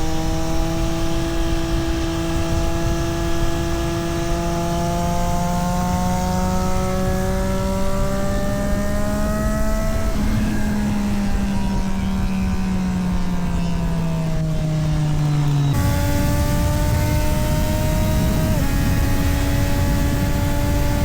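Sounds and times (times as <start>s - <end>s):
motorcycle engine running under load: 0.0s - 21.0s.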